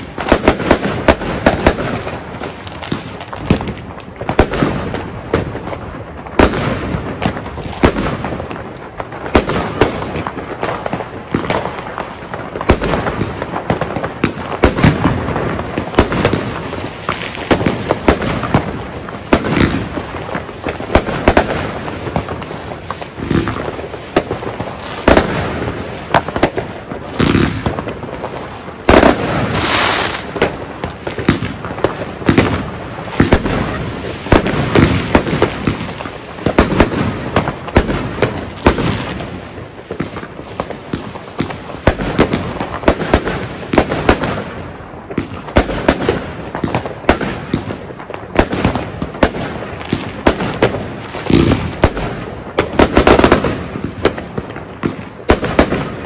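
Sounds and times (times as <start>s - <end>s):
firework bangs: 0.0s - 56.0s
firework crackling: 0.0s - 56.0s.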